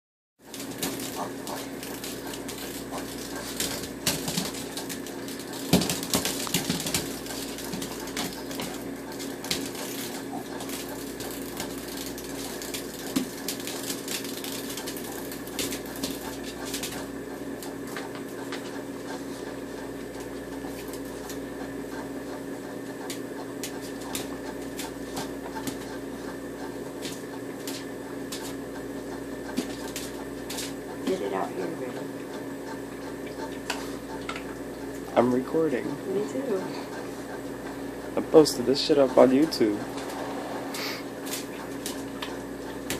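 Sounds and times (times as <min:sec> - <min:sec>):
steady low hum: 0:00.4 - 0:42.9.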